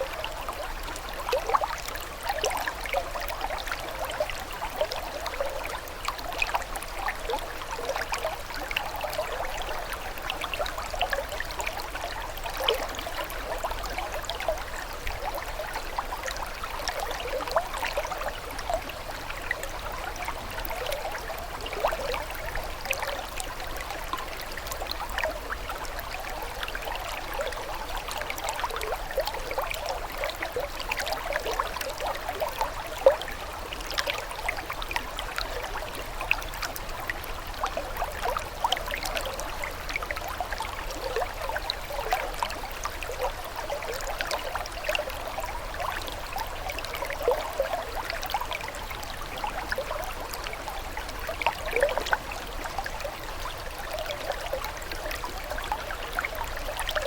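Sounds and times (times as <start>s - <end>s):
water trickling and bubbling: 0.0s - 57.0s.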